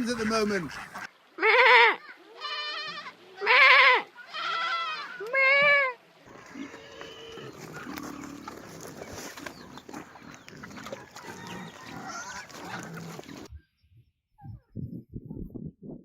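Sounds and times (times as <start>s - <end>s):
outdoor noise: 0.0s - 16.0s
animal calls: 0.2s - 13.6s.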